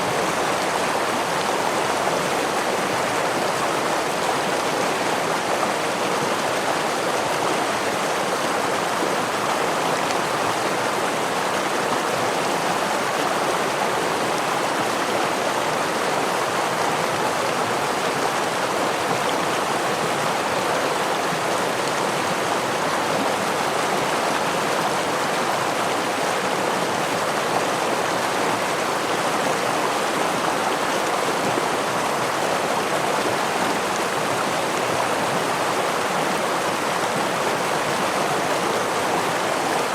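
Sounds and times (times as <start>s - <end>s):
stream and waterfall rushing: 0.0s - 39.9s.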